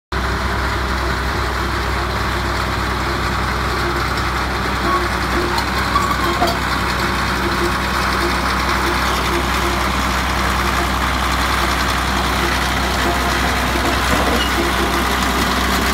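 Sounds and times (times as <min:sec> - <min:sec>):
bulldozer diesel engine running: 0:00.1 - 0:15.9.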